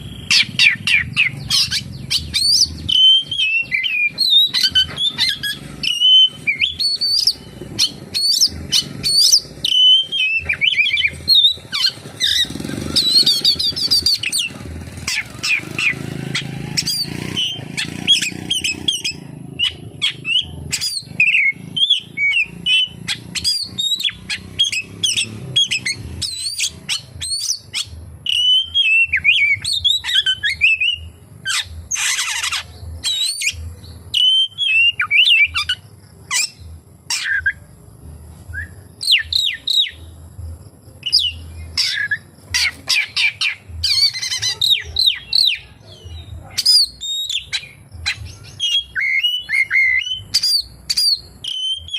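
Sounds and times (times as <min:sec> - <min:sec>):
bird singing whistles and chirps: 0:00.0 - 0:37.8, 0:38.4 - 0:51.9.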